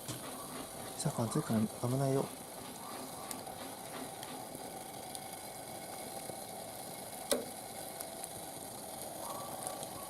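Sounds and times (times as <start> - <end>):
fire crackling and popping: 0.0 - 10.0
fire hissing: 0.0 - 10.0.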